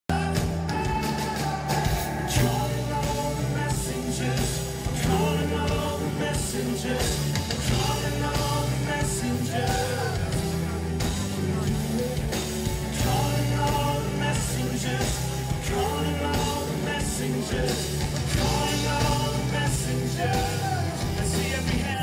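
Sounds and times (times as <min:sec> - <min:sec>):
lead singer singing: 0:00.1 - 0:22.0
live pop-rock band playing: 0:00.1 - 0:22.0
pounding drums: 0:00.1 - 0:22.0.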